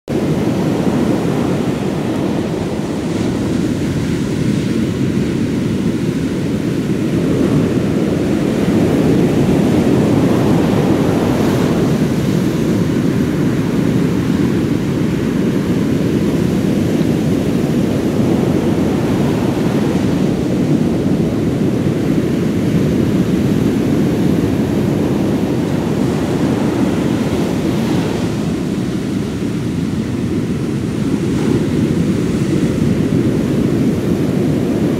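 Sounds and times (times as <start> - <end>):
heavy surf breaking: 0.1 - 34.9
wind rumbling on microphone: 0.1 - 34.9.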